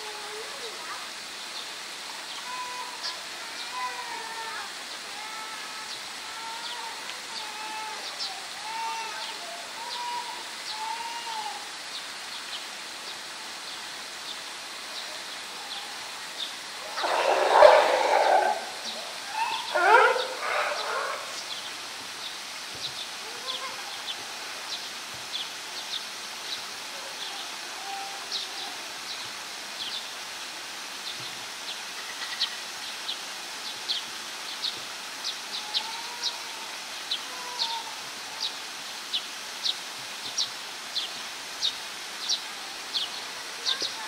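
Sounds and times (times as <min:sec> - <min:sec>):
outdoor background noise: 0:00.0 - 0:44.0.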